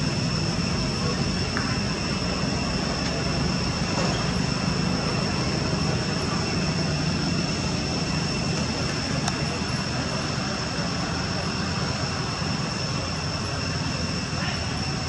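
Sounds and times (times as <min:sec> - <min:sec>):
constant high-pitched tones: 0:00.0 - 0:15.0.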